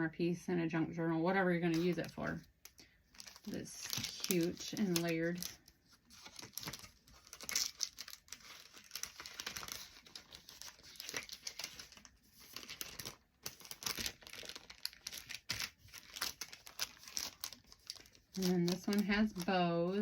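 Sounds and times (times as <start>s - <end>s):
packaging and paper crinkling: 1.7s - 20.0s.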